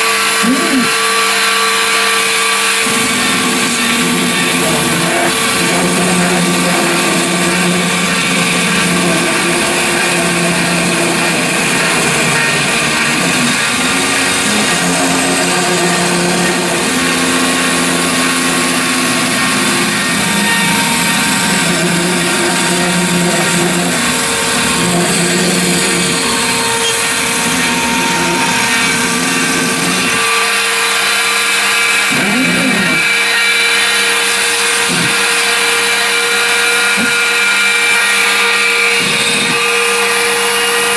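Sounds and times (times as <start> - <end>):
spindle motor whine: 0.0 - 40.9
stepper motors humming: 0.0 - 40.9.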